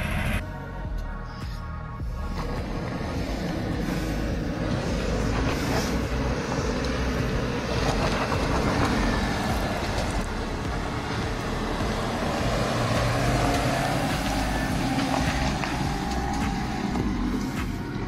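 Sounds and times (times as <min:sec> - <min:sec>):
car engine running at low revs: 0:00.0 - 0:01.2, 0:01.9 - 0:18.0.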